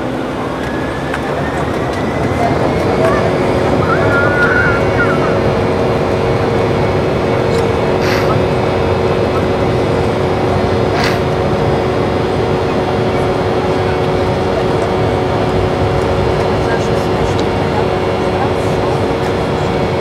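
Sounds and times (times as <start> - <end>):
air rush and rolling noise: 0.0 - 20.0
jet engines droning: 0.0 - 20.0.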